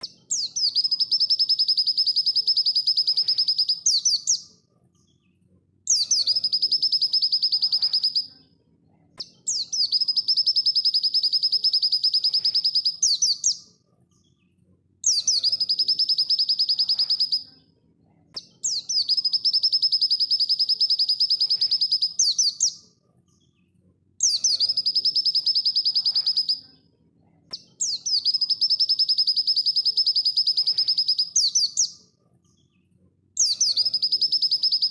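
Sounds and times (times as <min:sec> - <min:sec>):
bird singing trilled song: 0:00.0 - 0:05.2, 0:05.9 - 0:08.3, 0:09.2 - 0:14.4, 0:15.0 - 0:17.5, 0:18.3 - 0:22.8, 0:24.2 - 0:26.7, 0:27.5 - 0:32.1, 0:33.4 - 0:34.9.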